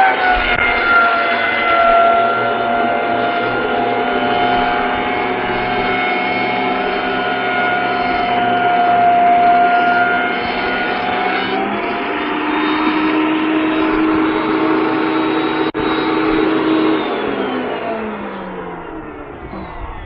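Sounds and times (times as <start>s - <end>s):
thickness planer planing board: 0.0s - 20.0s.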